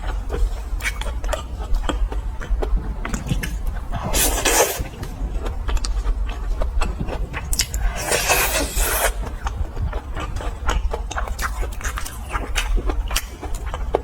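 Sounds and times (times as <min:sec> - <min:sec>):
chewing clicks and smacks: 0:00.0 - 0:04.1, 0:04.8 - 0:08.0, 0:09.1 - 0:14.0
food crunching: 0:00.0 - 0:14.0.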